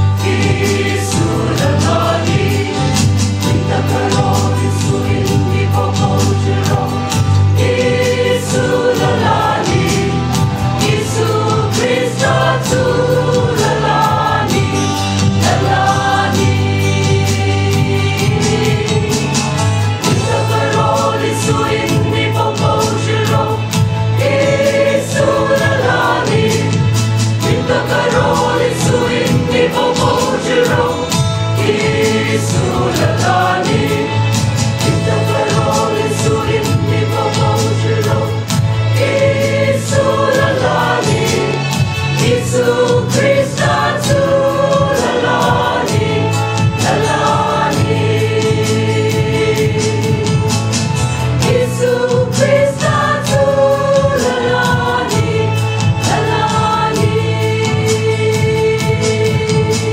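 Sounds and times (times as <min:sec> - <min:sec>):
mixed choir singing gospel: 0:00.0 - 0:59.9.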